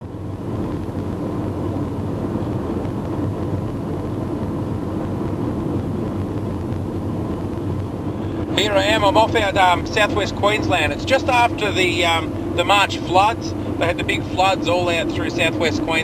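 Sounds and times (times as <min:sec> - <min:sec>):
vehicle driving rumble: 0:00.0 - 0:16.0.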